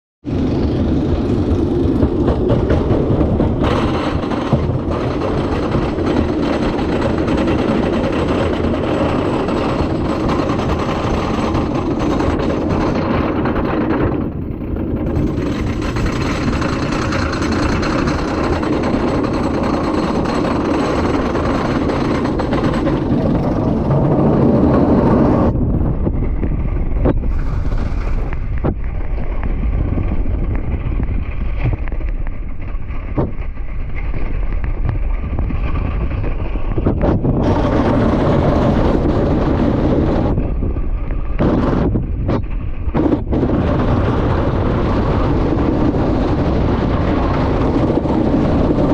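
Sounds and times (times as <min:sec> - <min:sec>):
roller coaster rumbling and rattling: 0:00.2 - 0:48.9.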